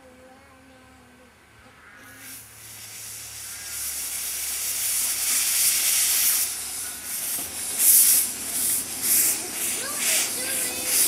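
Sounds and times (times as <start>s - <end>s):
steam locomotive hissing: 2.1s - 11.0s.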